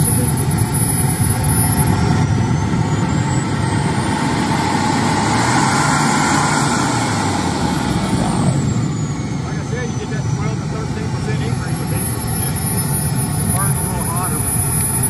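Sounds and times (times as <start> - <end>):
model jet turbine engine whine: 0.0 - 15.0.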